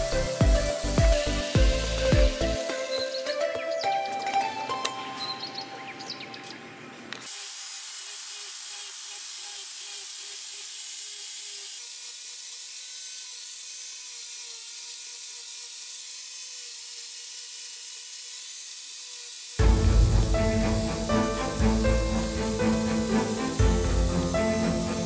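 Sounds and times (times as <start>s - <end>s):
sanding pad hissing on wood: 0.0s - 3.2s, 7.2s - 25.0s.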